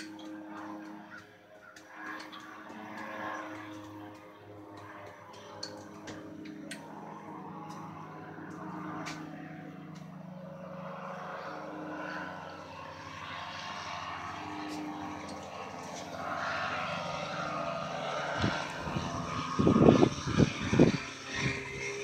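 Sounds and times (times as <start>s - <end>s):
gyrocopter engine droning: 0.0s - 22.0s.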